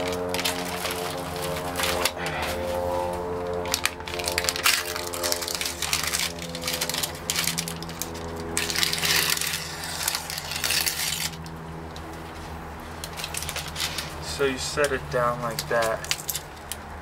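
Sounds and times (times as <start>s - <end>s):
paper wrapping crinkling and tearing: 0.0s - 16.8s
steady low hum: 0.0s - 17.0s.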